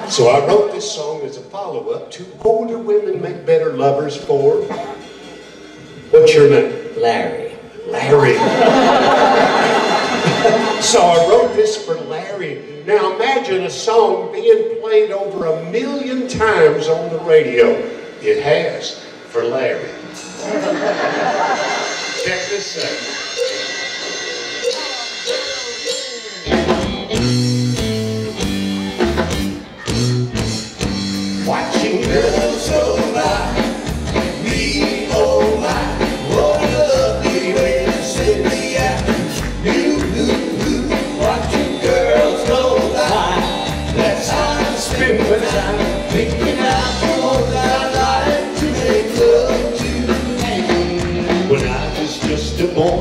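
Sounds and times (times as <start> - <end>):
live rock band playing: 0.0 - 0.7, 4.2 - 12.8, 14.7 - 53.0.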